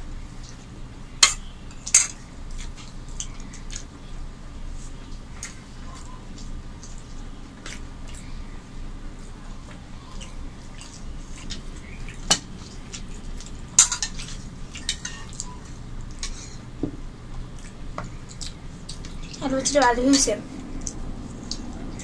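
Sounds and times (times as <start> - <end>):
chewing and mixing food: 0.0 - 22.0
steady low hum: 0.0 - 22.0.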